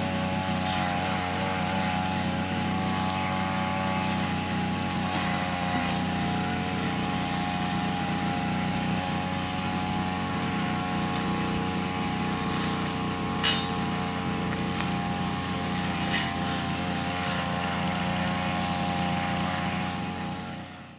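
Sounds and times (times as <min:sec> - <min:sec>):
brush cutter engine running: 0:00.0 - 0:20.9.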